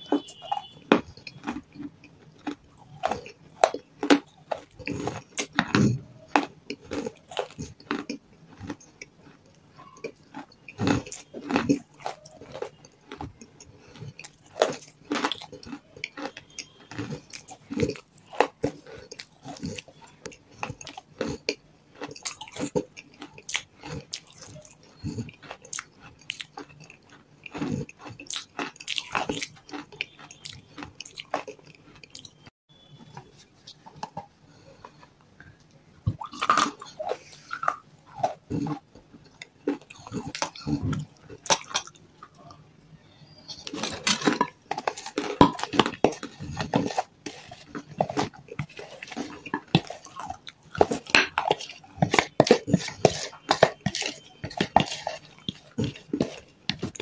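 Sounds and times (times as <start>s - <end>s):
mouth eating sticky paste: 0.0s - 42.7s, 43.3s - 57.0s.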